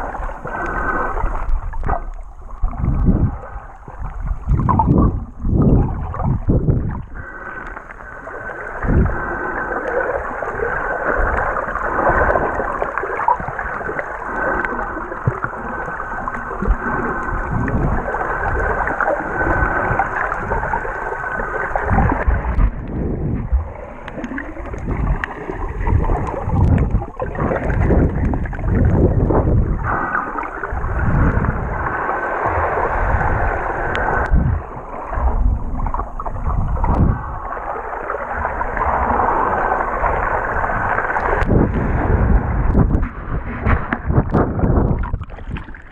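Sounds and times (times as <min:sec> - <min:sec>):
muffled underwater sloshing: 0:00.0 - 0:45.9.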